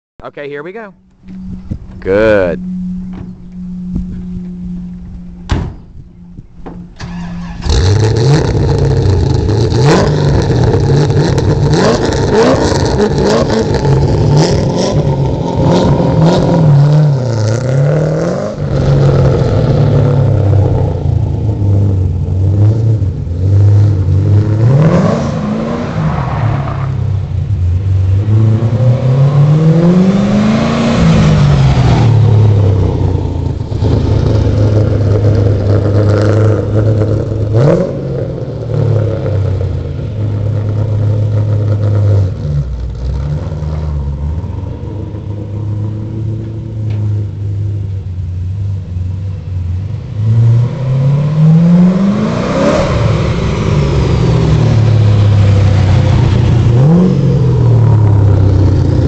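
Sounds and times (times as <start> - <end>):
engine revving: 0.6 - 48.0, 49.9 - 59.0.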